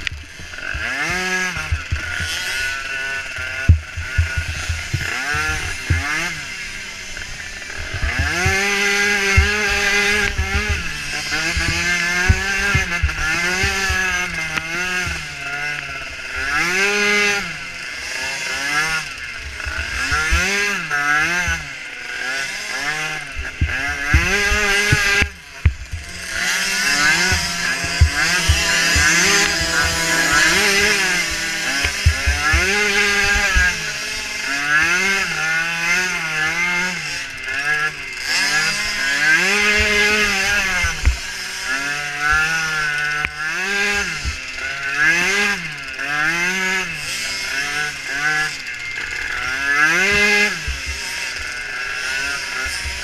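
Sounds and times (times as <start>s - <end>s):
small atv engines revving: 0.0s - 53.0s.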